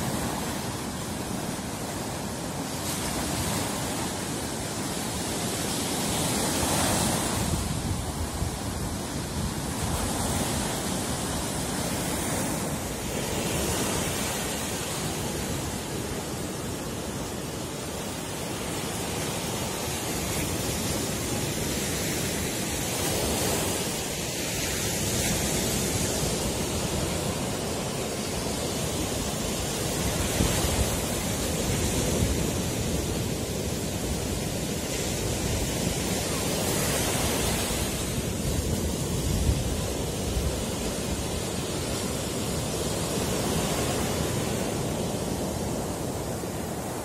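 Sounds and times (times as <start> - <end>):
waves breaking on beach: 0.0 - 47.0.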